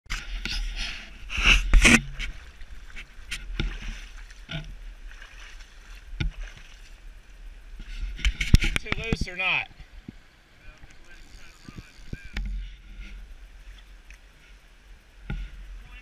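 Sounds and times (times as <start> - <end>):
steady low rumble: 0.1 - 16.0
water sloshing from wading: 0.2 - 16.0.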